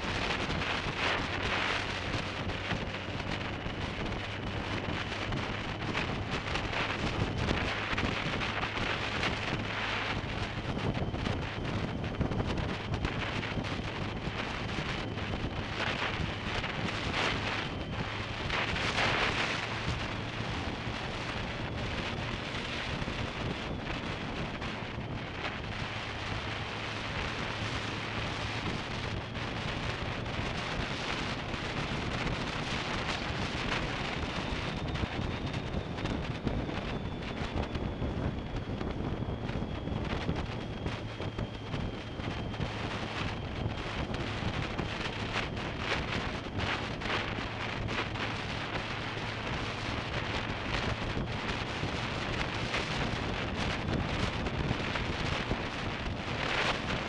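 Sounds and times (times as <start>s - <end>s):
motorcycle engine drone: 0.0s - 57.0s
wind rushing over microphone: 0.0s - 57.0s.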